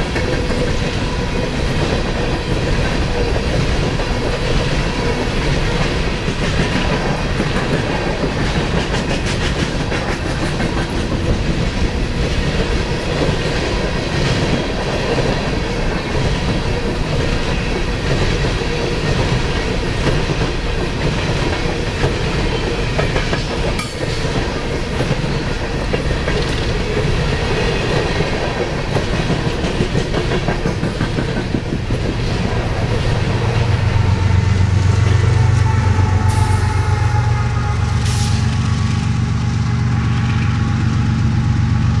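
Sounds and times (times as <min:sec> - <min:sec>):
low diesel locomotive drone: 0:00.0 - 0:42.0.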